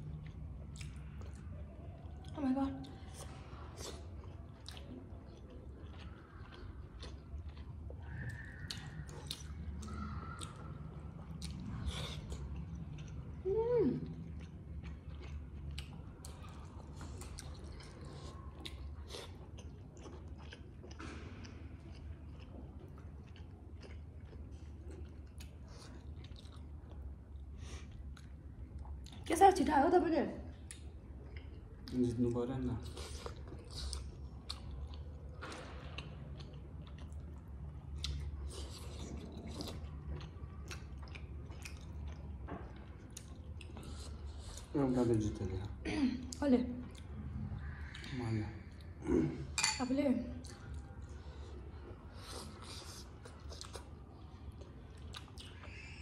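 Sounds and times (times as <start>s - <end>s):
people chewing wetly: 0.0s - 29.4s, 30.5s - 49.6s, 50.3s - 56.0s
steady low hum: 0.0s - 56.0s.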